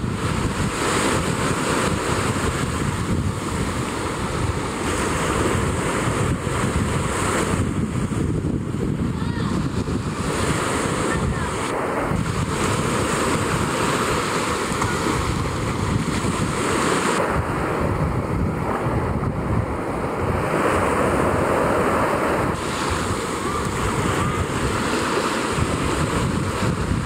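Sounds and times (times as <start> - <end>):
sea surf washing around rocks: 0.0 - 27.0
wind buffeting microphone: 0.0 - 27.0.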